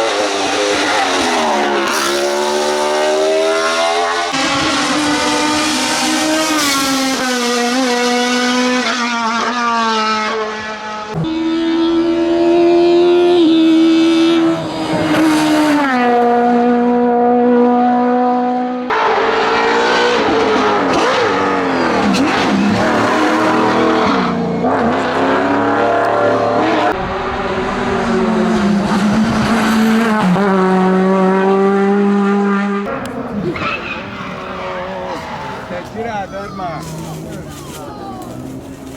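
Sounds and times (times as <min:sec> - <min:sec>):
race car engine shifting gears: 0:00.0 - 0:12.5, 0:18.9 - 0:38.9.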